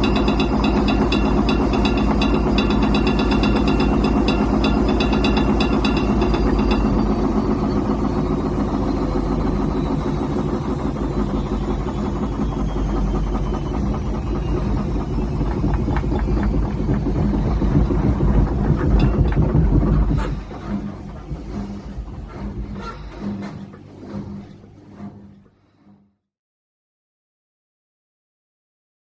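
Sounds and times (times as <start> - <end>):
washing machine running: 0.0 - 26.1.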